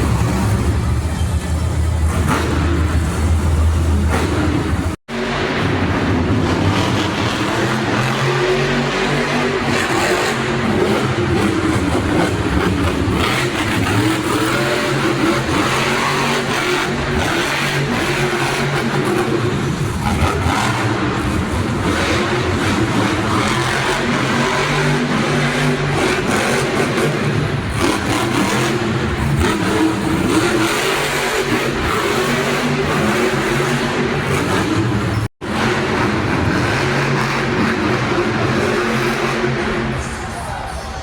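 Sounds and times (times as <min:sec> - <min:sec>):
truck engine revving: 0:00.0 - 0:40.8.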